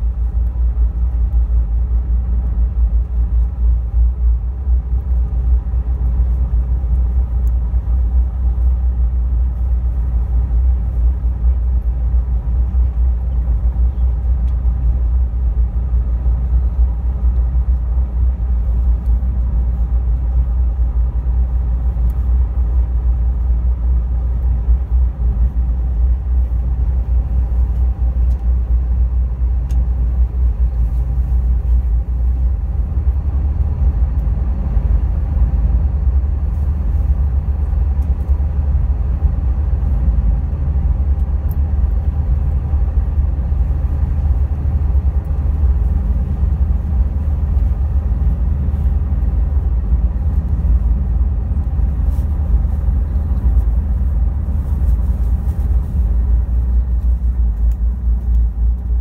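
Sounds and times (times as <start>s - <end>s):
boat engines deep rumble: 0.0s - 59.0s
faint hum: 0.0s - 59.0s.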